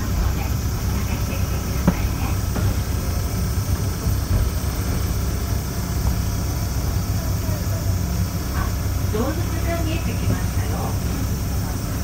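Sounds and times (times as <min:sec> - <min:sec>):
diesel train running slowly: 0:00.0 - 0:12.0.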